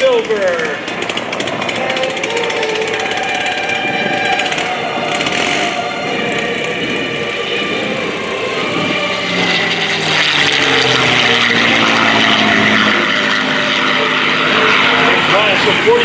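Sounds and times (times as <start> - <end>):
propeller plane engine flyby: 0.0 - 16.0.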